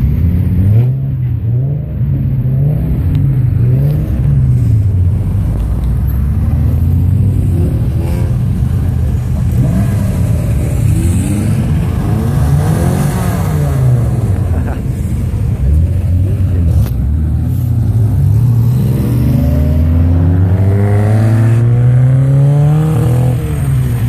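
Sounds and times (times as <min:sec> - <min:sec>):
car engines revving driving past: 0:00.0 - 0:24.0.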